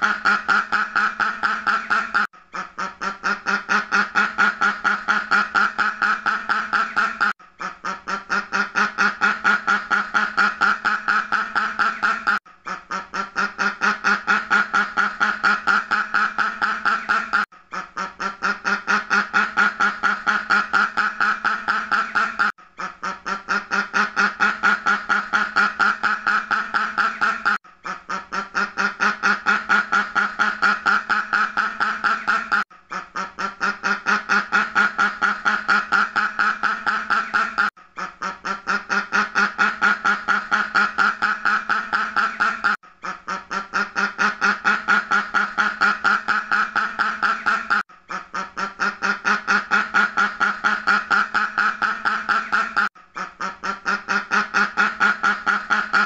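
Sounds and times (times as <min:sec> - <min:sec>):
duck quacking: 0:00.0 - 0:56.0.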